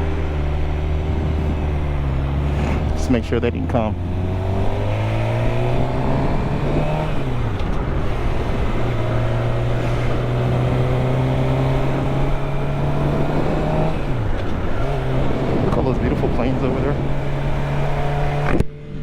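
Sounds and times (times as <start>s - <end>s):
motorcycle engine shifting up: 0.0s - 19.0s
road and wind noise: 0.0s - 19.0s.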